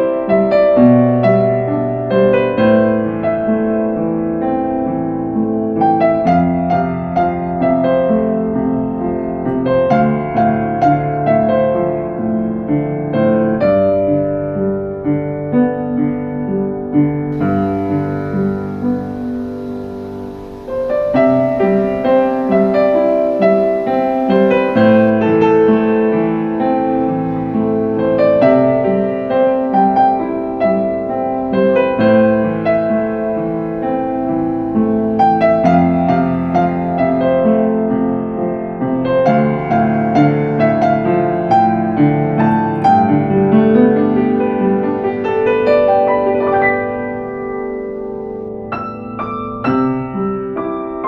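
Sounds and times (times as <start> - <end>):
piano background music: 0.0 - 51.0.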